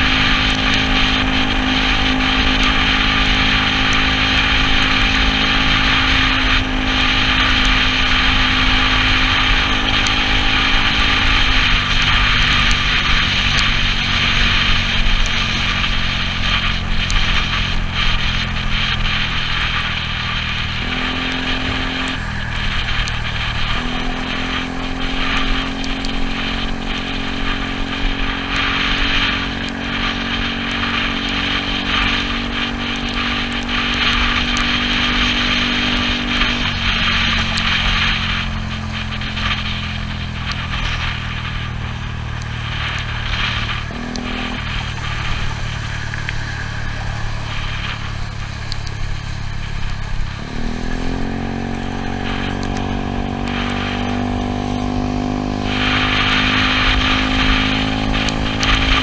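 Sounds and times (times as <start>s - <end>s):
scooter engine running: 0.0s - 59.0s
tyre hiss on wet road: 0.0s - 59.0s
wind: 0.0s - 59.0s.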